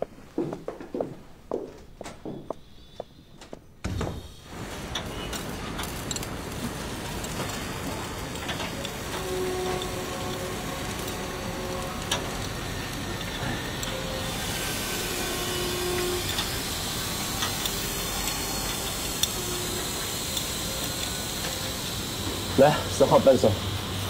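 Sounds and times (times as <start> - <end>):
railway depot hiss: 3.9 - 24.0.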